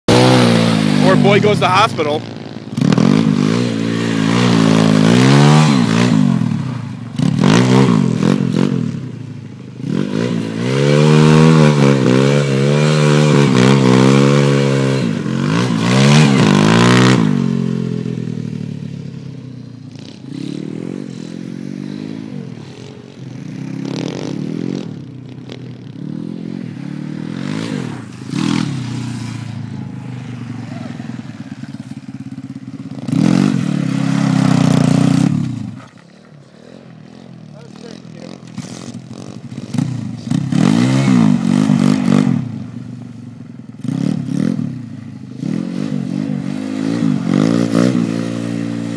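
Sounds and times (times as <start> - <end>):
motorbike engine revving: 0.0 - 48.9.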